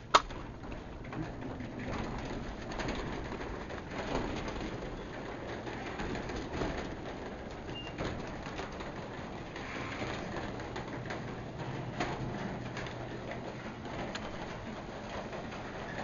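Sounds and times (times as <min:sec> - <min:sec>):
garage door opener humming: 0:00.0 - 0:16.0.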